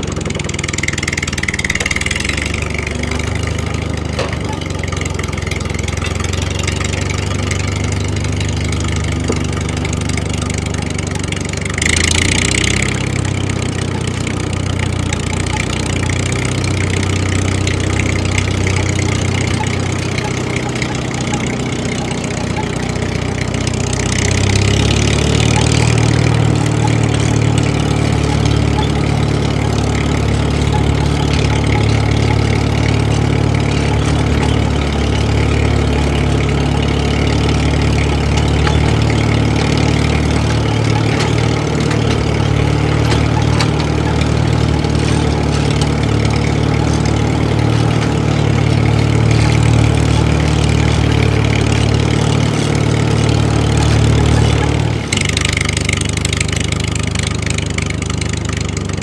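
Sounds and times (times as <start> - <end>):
engine humming: 0.0 - 59.0.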